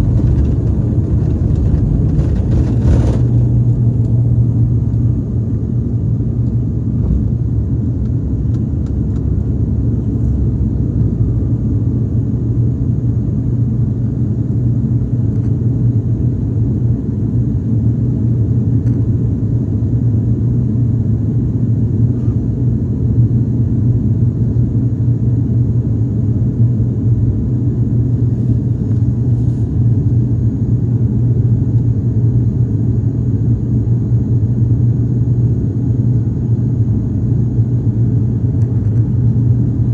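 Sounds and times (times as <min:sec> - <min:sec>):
aircraft engines droning in cabin: 0:00.0 - 0:39.9.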